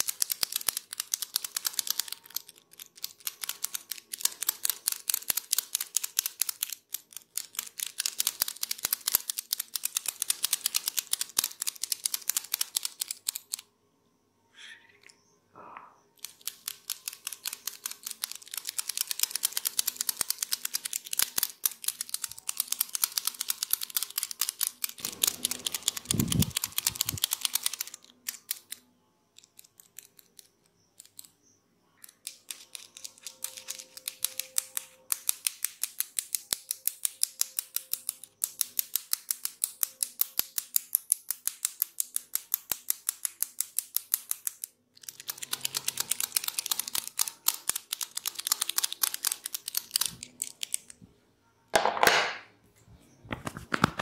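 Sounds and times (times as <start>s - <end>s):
small metal tools clicking: 0.0s - 13.7s, 16.2s - 51.0s.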